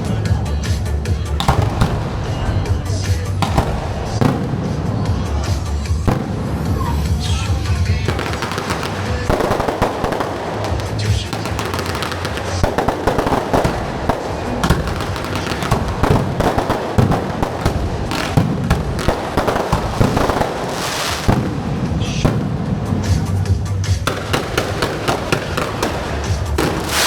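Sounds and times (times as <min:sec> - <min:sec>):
fireworks crackling pops: 0:00.0 - 0:27.0
loud firework bangs: 0:00.0 - 0:27.0
music: 0:00.0 - 0:27.0.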